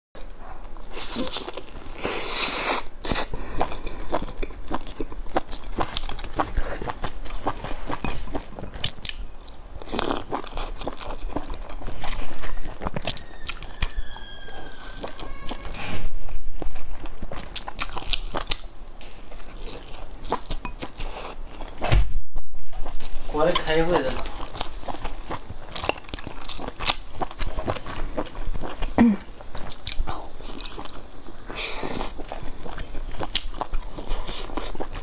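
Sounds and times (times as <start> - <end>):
chewing a soft bun: 0.2 - 21.8, 22.8 - 35.0.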